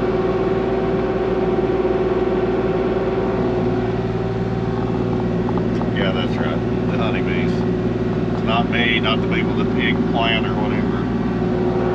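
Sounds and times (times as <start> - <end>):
excavator engine and hydraulic hum: 0.0 - 11.9.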